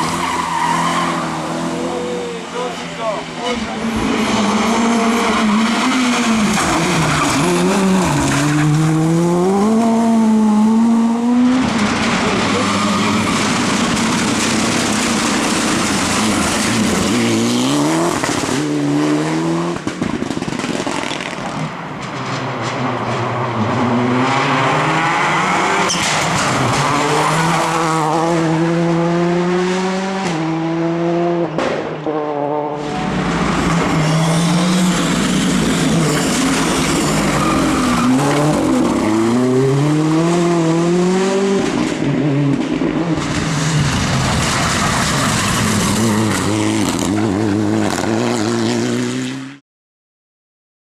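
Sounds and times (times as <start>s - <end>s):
rally car engine at full throttle: 0.0s - 49.6s.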